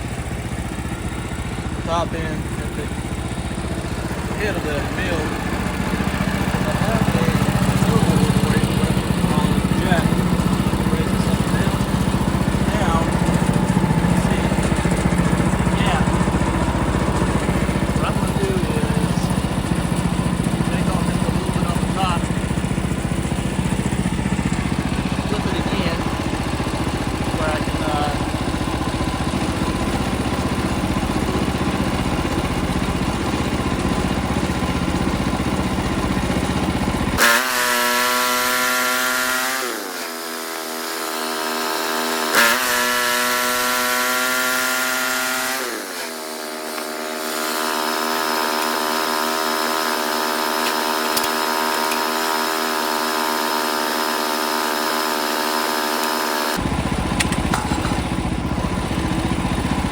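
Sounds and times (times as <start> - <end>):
bandsaw blade cutting log: 0.0 - 59.9
sawmill engine running: 0.0 - 59.9.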